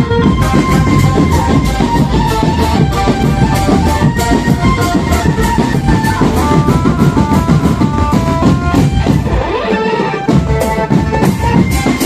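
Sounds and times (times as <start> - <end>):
held-note melody line: 0.0 - 12.0
marching drum band playing: 0.0 - 12.0.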